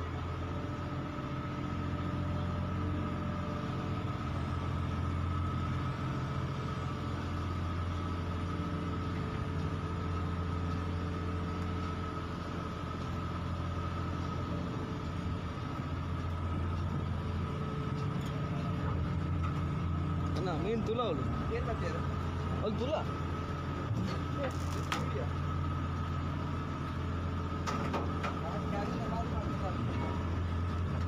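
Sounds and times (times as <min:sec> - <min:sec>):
large engine idling: 0:00.0 - 0:31.0.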